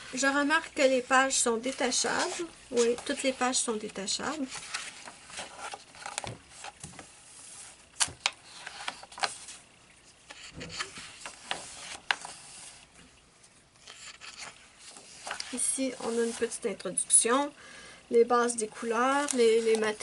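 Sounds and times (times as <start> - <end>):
paper rustling and rubbing: 0.0 - 13.0, 13.8 - 16.7, 18.8 - 20.0.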